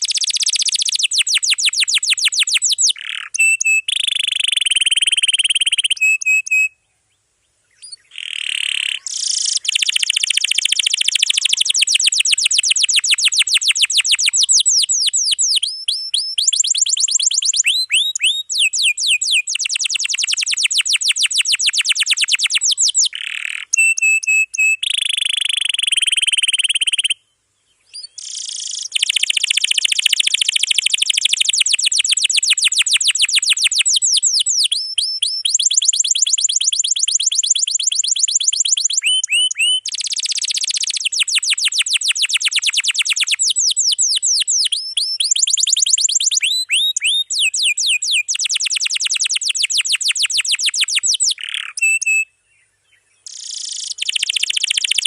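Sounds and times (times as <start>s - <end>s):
canary singing trills: 0.0s - 6.9s, 7.7s - 55.0s.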